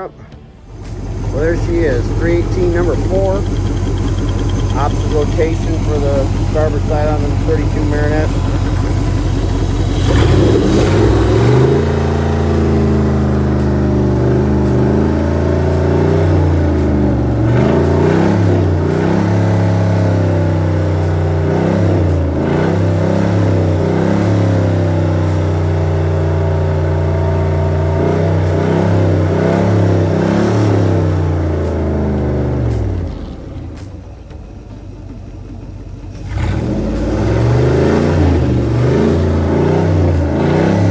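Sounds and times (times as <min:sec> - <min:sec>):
boat engine running: 0:00.0 - 0:40.9
exhaust discharging water: 0:00.7 - 0:34.1.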